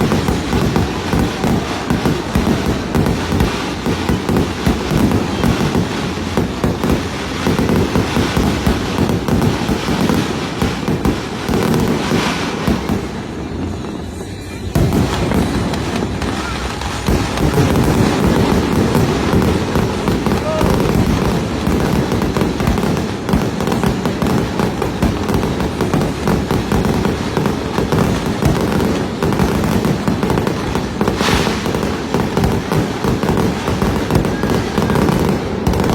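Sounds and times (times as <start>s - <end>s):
fireworks booming and crackling: 0.0s - 35.9s.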